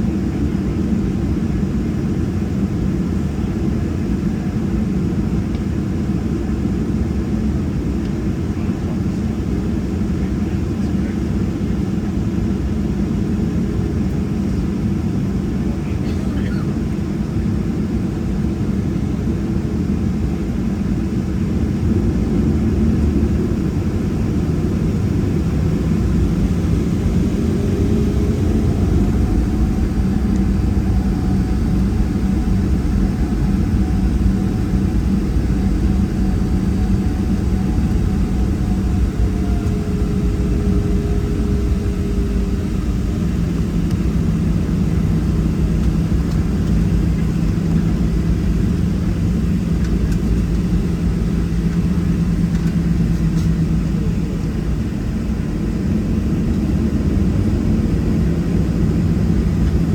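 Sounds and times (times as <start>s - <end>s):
jet engines droning from cabin: 0.0s - 59.9s.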